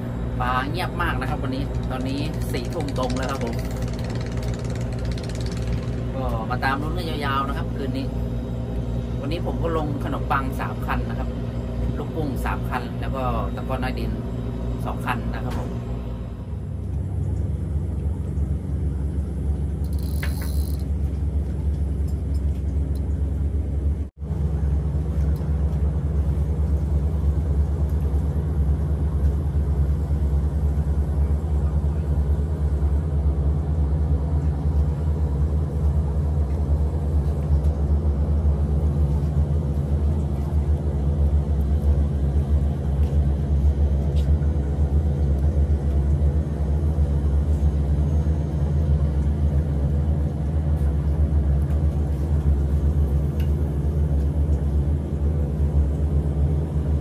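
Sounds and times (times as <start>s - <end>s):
engine rumbling: 0.0s - 57.0s.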